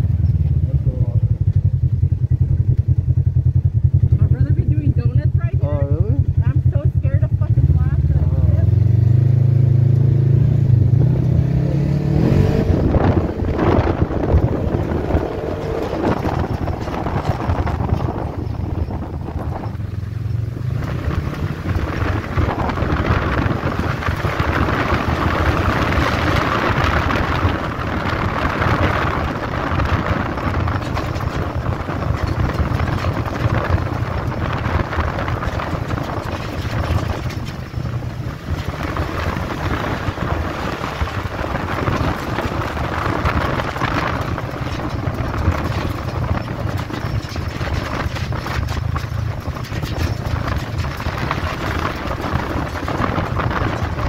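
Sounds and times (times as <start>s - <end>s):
off-road vehicle engine running: 0.0s - 54.0s
wind and road noise: 0.0s - 54.0s.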